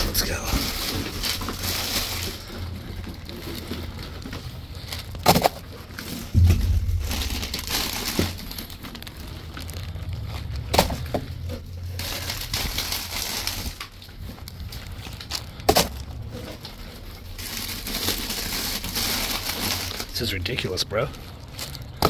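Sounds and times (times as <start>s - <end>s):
wrappers and boxes rustling: 0.0s - 22.0s.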